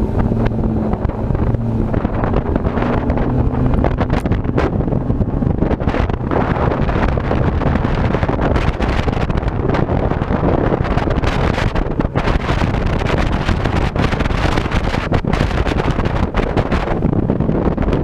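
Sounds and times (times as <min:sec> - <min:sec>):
boat motor running: 0:00.0 - 0:18.0
wind buffeting microphone: 0:00.0 - 0:18.0.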